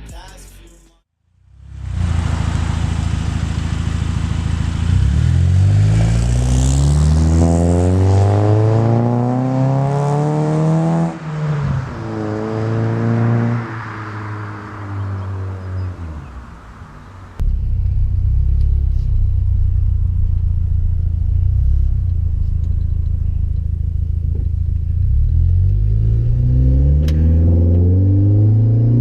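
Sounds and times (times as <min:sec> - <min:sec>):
car exhaust under acceleration: 0:01.4 - 0:29.0.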